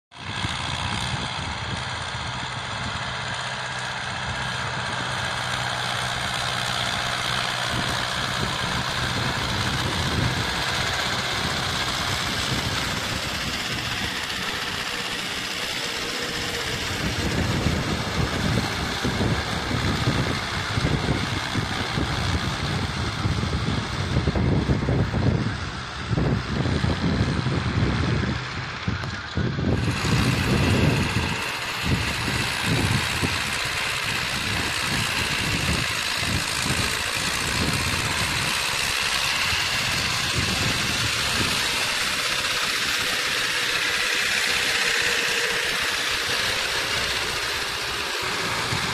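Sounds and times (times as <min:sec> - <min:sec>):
tractor diesel engine running: 0:00.1 - 0:48.9.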